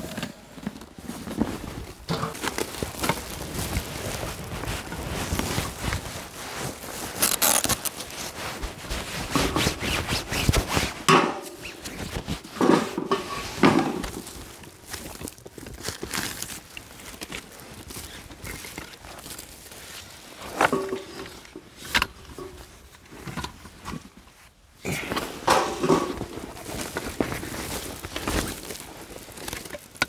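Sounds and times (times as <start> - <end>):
woven sack rustling: 0.0 - 30.0.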